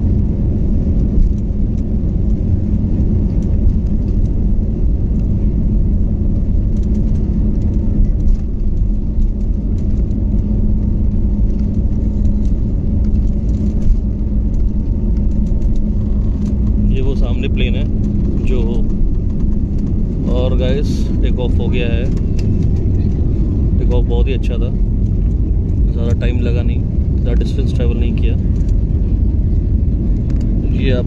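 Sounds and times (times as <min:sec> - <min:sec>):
jet engines and wheels rumbling: 0:00.0 - 0:31.0
steady hum: 0:00.0 - 0:31.0.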